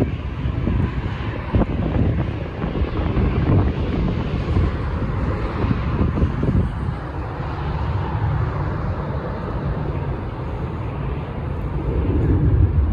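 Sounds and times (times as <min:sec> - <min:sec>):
jet engines rumbling: 0:00.0 - 0:12.9
rushing air: 0:00.0 - 0:12.9.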